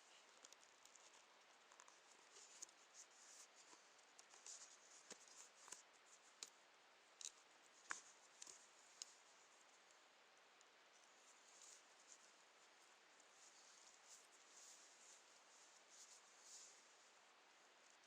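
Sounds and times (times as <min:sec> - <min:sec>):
faint steady hiss: 0:00.0 - 0:18.0
small clicks and rustles: 0:00.0 - 0:18.0.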